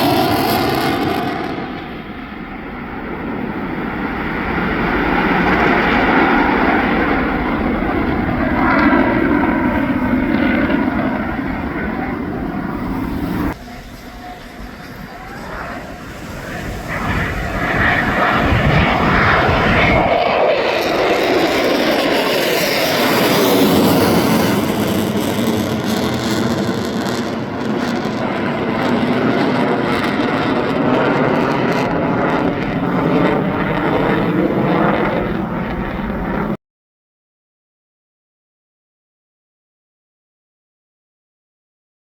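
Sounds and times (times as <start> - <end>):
jet flying past: 0.0 - 36.6
wind buffeting microphone: 0.0 - 36.6.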